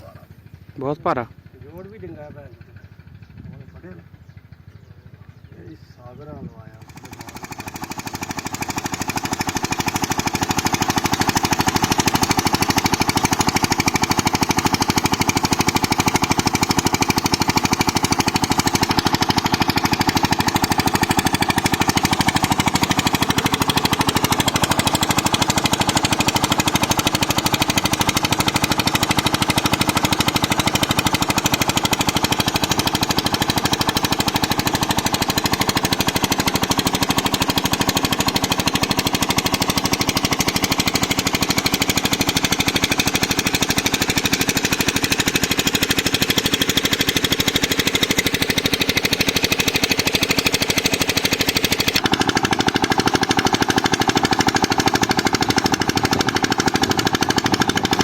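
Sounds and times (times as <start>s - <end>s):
diesel engine put-put: 6.4s - 58.0s.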